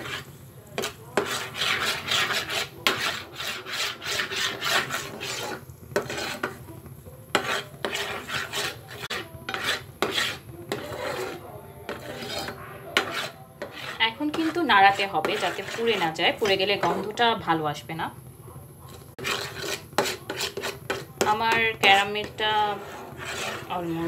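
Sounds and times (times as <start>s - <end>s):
spoon stirring bubbling caramel: 0.0s - 17.6s, 18.8s - 24.0s.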